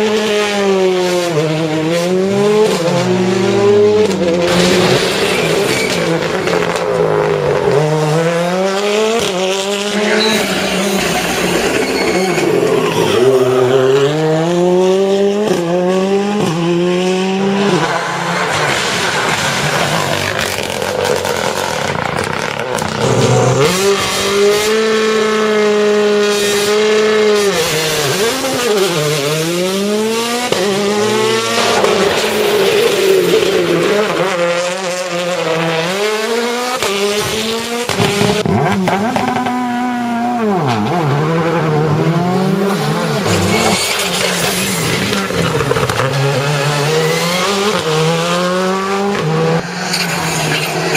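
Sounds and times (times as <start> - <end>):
rally car engines revving: 0.0 - 50.9.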